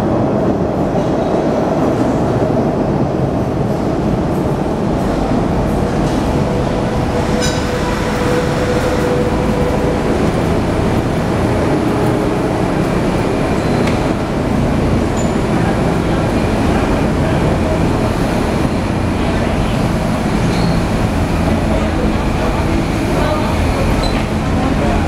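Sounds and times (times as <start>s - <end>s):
subway train rumble and hum: 0.0s - 25.0s.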